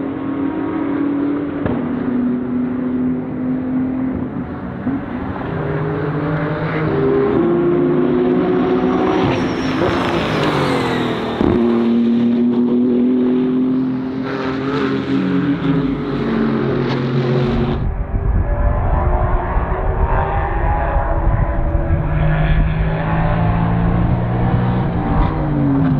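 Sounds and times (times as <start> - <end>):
race car engine revving: 2.7 - 25.9.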